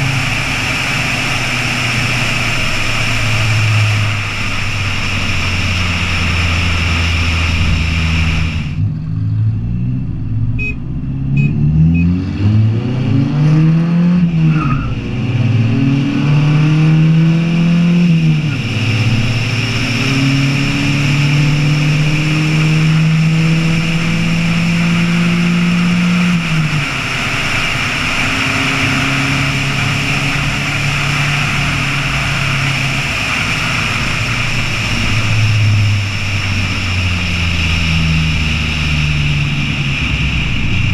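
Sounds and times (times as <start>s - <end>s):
truck engine accelerating: 0.0s - 40.9s
wind and road noise: 0.0s - 40.9s.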